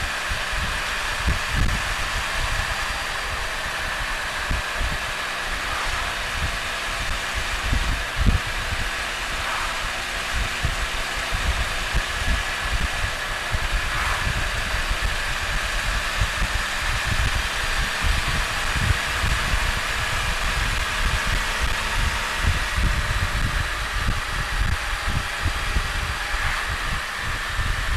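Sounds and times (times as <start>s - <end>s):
motorcycle engine cruising: 0.0s - 27.9s
wind buffeting microphone: 0.0s - 27.9s.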